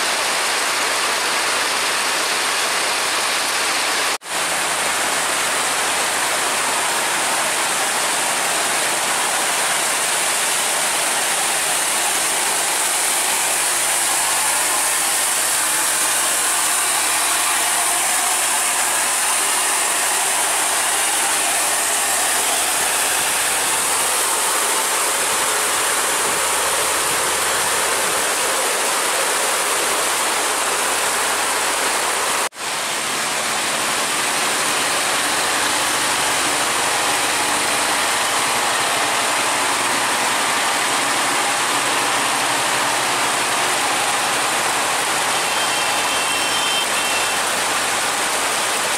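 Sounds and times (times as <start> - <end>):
heavy rain falling: 0.0 - 48.9
truck diesel engine under load: 0.0 - 48.9.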